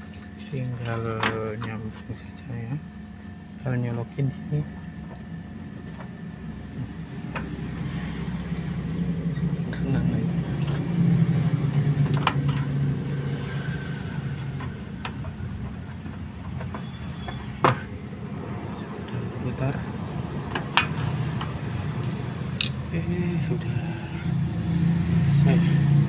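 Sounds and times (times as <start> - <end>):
refrigeration compressor humming: 0.0 - 26.0.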